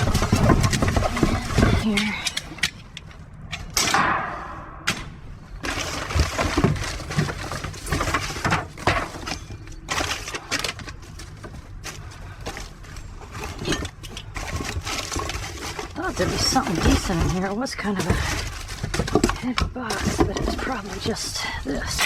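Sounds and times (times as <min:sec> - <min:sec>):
items knocking and clattering: 0:00.0 - 0:22.0.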